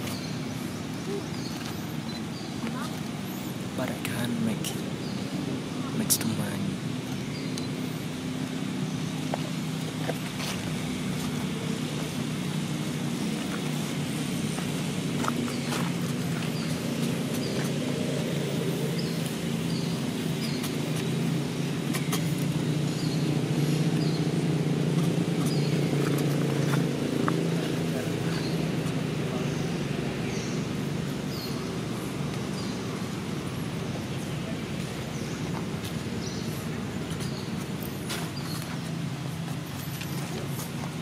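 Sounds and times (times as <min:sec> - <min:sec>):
vehicle engine rumble: 0:00.0 - 0:41.0.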